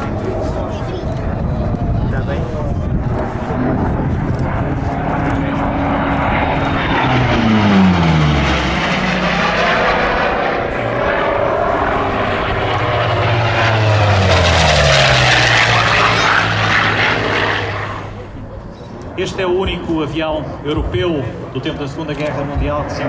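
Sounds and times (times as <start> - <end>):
propeller plane engine passing: 0.0 - 23.0.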